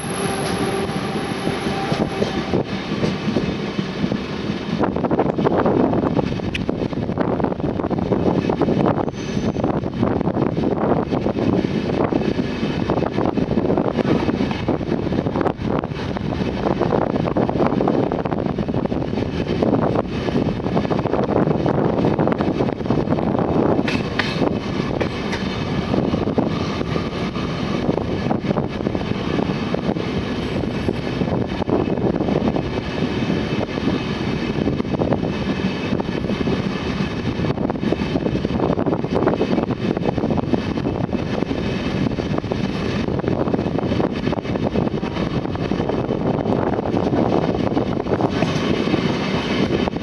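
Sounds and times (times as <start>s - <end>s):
train wheels rumbling on rails: 0.0s - 50.0s
wind rushing: 0.0s - 50.0s.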